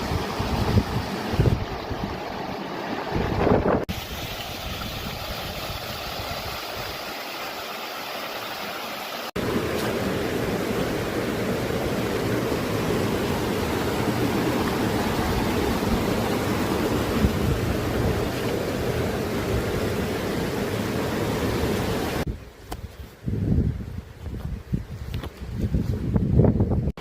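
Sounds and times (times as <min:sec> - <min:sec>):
running water rushing: 0:00.0 - 0:22.3.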